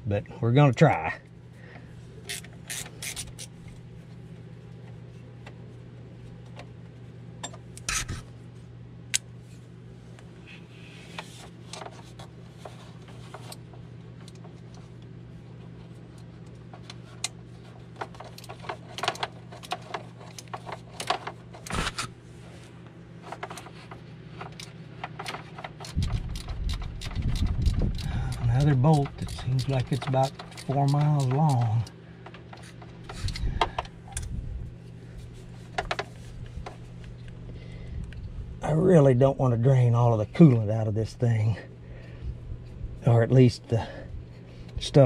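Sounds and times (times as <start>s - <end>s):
low hum: 0.0s - 45.0s.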